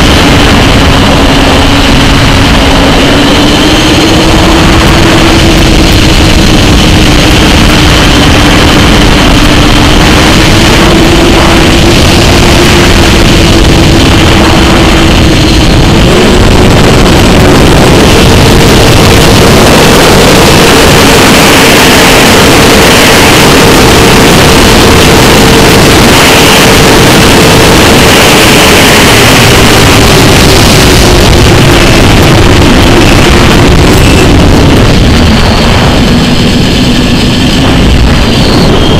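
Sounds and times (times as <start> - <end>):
electric motor and propeller whine: 0.0 - 38.9
wind rush on microphone: 0.0 - 38.9.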